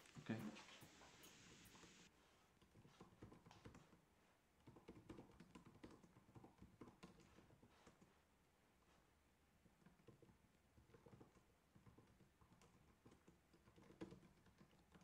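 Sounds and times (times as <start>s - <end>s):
faint keyboard typing: 0.0s - 8.1s, 9.6s - 15.0s.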